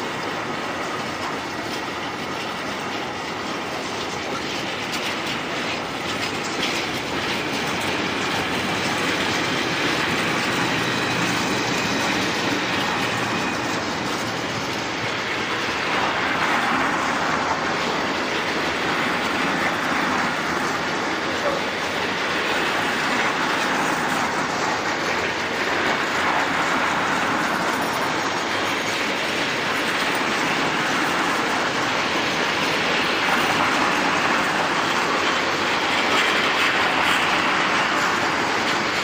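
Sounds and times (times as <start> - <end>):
freight wagons rolling past: 0.0 - 39.0
wheels clacking over rail joints: 0.0 - 39.0.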